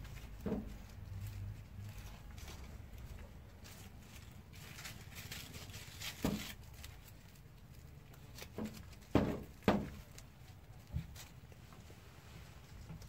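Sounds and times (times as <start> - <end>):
soft knocks and rustles: 0.0 - 7.2, 8.2 - 13.0.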